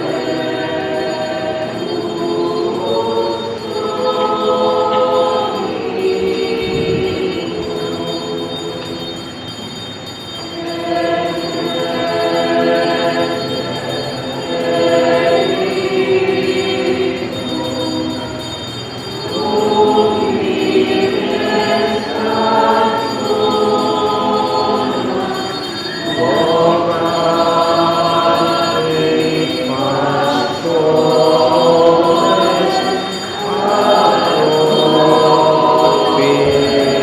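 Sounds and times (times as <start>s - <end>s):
church choir singing a hymn: 0.0s - 37.0s.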